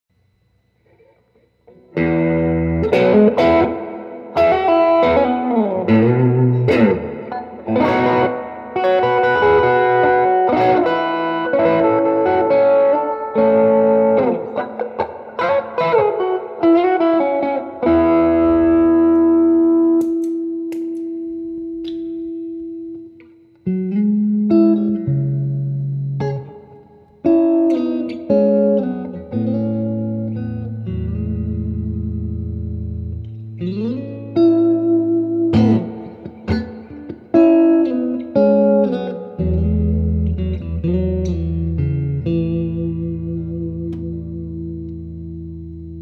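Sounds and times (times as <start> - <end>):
electric guitar with string bends: 0.2 - 46.0.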